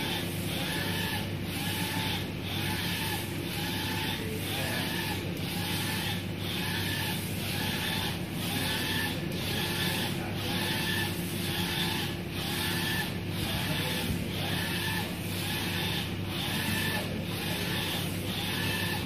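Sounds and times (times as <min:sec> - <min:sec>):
printer carriage whine: 0:00.0 - 0:19.0
steady low hum: 0:00.0 - 0:19.0.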